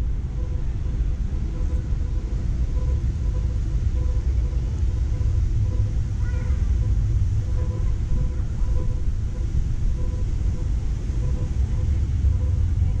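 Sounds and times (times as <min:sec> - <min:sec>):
city street rumble: 0:00.0 - 0:13.0
faint pulsing hum: 0:00.0 - 0:13.0.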